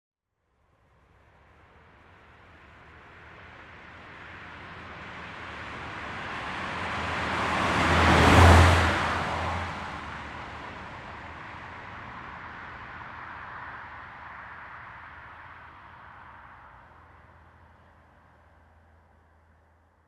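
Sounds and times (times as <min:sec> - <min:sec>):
car driving past: 0:02.1 - 0:19.0.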